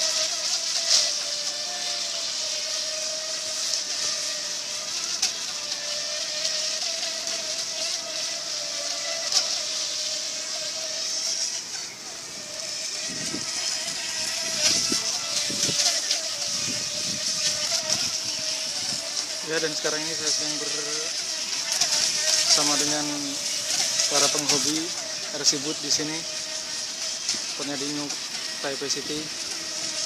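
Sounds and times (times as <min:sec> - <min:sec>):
electric boat motors whining: 0:00.0 - 0:30.0
hiss: 0:00.0 - 0:30.0.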